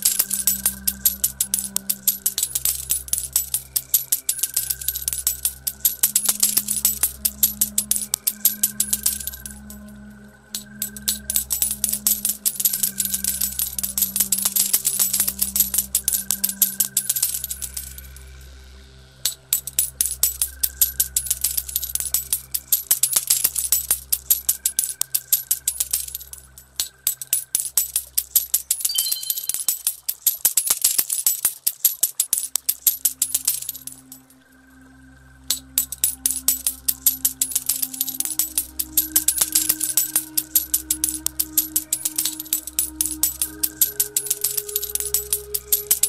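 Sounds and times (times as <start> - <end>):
coins pouring and clinking: 0.0 - 9.9, 10.5 - 18.2, 19.2 - 34.4, 35.5 - 46.0
slow music with low notes: 0.0 - 29.8, 32.8 - 46.0.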